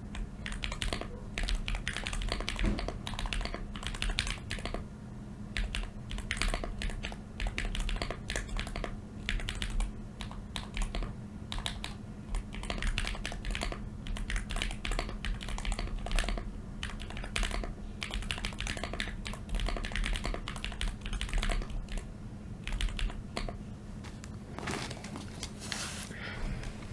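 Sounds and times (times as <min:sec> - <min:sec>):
mechanical keyboard typing: 0:00.0 - 0:04.8, 0:05.5 - 0:23.6.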